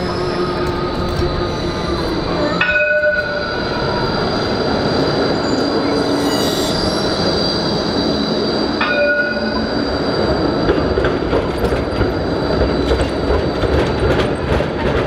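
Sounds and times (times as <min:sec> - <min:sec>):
street noise: 0:00.0 - 0:15.0
tram wheels squealing on rails: 0:00.0 - 0:15.0.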